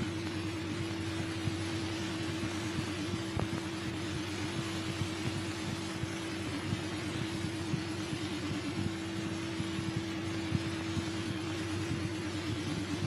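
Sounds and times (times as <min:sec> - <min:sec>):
film soundtrack hiss: 0:00.0 - 0:13.0
low wobbling hum: 0:00.0 - 0:13.0.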